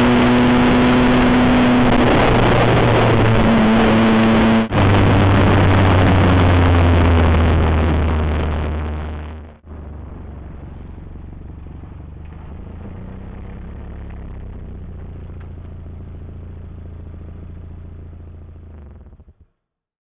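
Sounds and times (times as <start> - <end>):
vehicle engine running low revs: 0.0 - 19.5.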